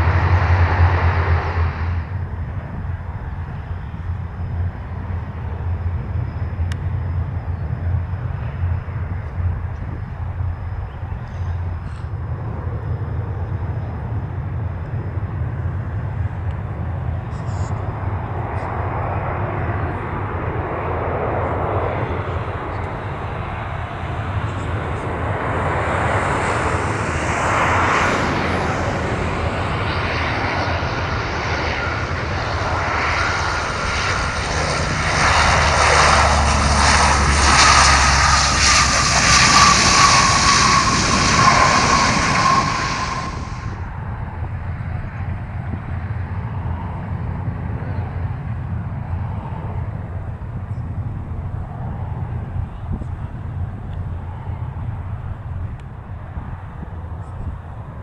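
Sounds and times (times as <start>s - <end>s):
turboprop plane passing: 0.0s - 58.0s.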